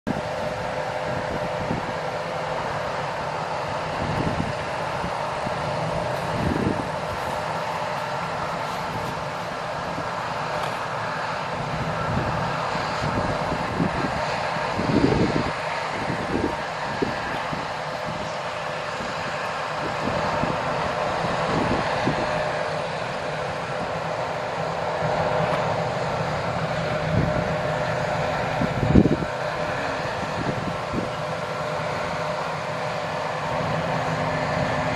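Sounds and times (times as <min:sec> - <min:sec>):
combine harvester drone: 0:00.0 - 0:34.9.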